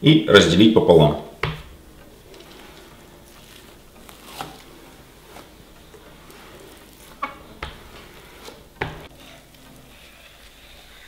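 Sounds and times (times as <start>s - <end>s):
soft handling sounds: 1.9s - 11.0s.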